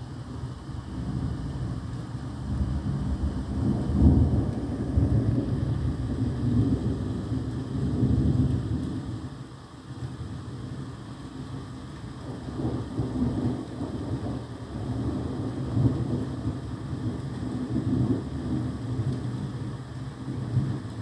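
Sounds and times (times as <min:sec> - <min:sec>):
rain: 0:00.0 - 0:21.0
thunder rumbling: 0:00.8 - 0:09.2, 0:12.2 - 0:21.0.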